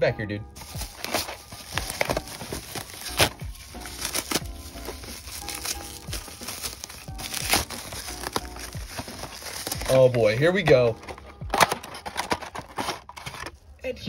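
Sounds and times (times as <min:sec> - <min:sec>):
background music: 0:00.0 - 0:14.0
bubble wrap crinkling: 0:00.6 - 0:13.5.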